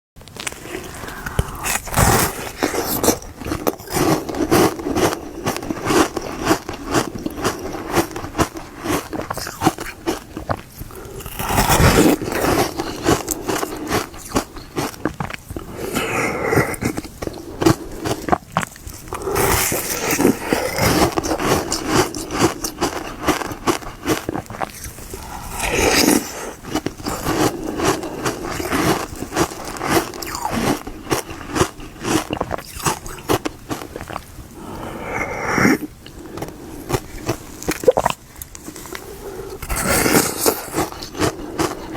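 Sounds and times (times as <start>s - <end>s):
chewing hard ice crunching: 0.4s - 41.9s.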